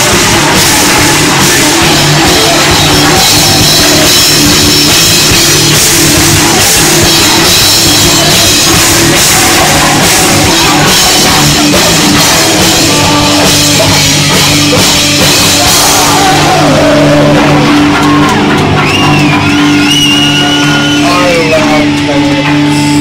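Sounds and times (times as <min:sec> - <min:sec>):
bass guitar: 0:00.0 - 0:23.0
distorted electric guitars: 0:00.0 - 0:23.0
drums and cymbals: 0:00.0 - 0:23.0.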